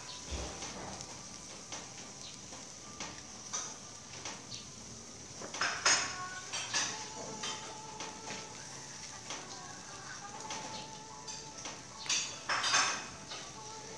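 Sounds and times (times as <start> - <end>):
tongs clicking on grill grate: 0.5 - 4.7, 5.3 - 13.9.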